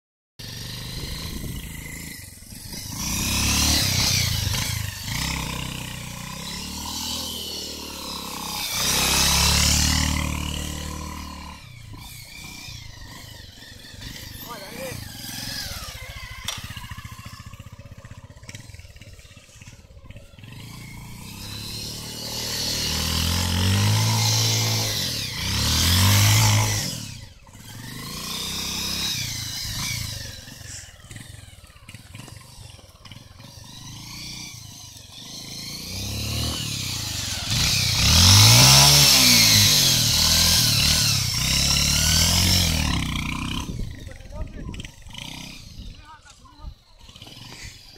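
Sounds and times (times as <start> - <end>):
motorcycle engine revving: 0.4 - 47.9.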